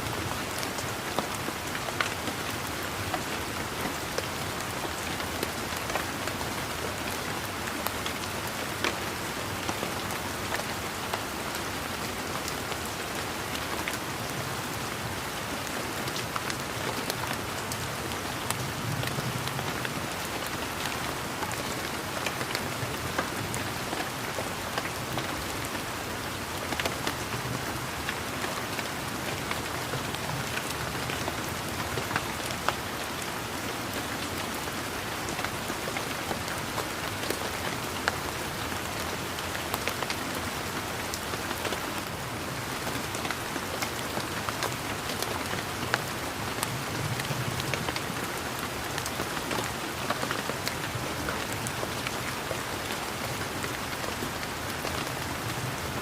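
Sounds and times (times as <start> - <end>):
rain falling: 0.0 - 56.0
raindrops ticking on leaves: 0.0 - 56.0.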